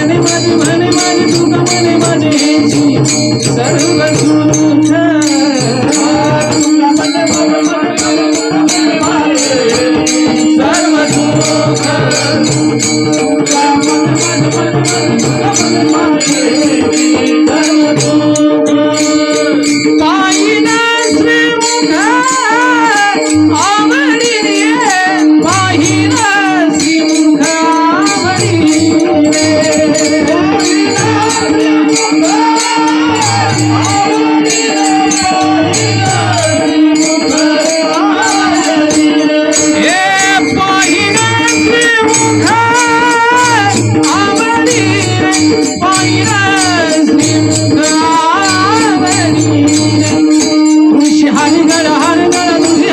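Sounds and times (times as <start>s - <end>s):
jingling hand cymbals: 0.0s - 52.9s
man singing devotional song: 0.0s - 52.9s.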